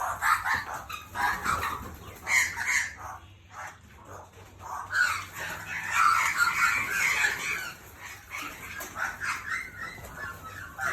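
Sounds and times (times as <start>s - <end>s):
flock of birds calling: 0.0s - 10.9s.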